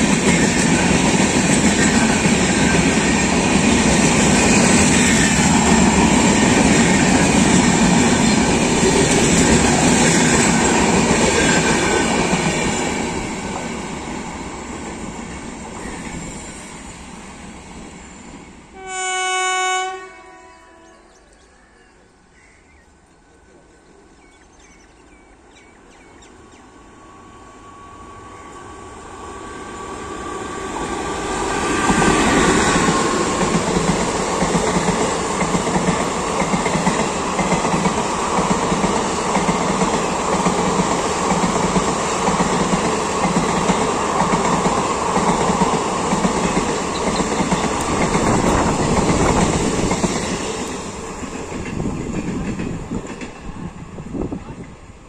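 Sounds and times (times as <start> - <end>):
passenger train passing: 0.0 - 55.0.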